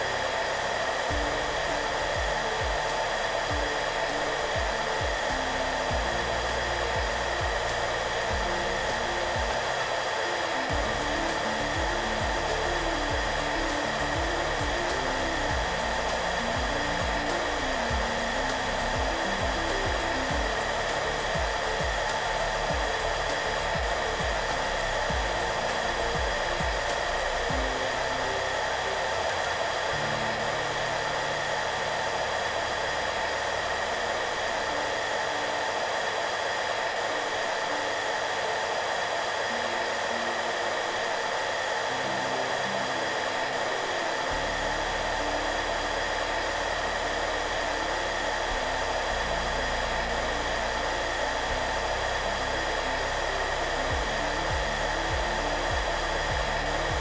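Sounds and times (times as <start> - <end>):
hair dryer running: 0.0 - 57.0
soft background music: 0.0 - 57.0.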